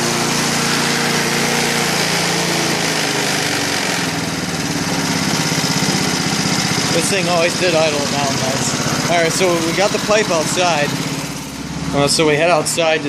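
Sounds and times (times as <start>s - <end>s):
lawnmower engine running: 0.0s - 13.0s.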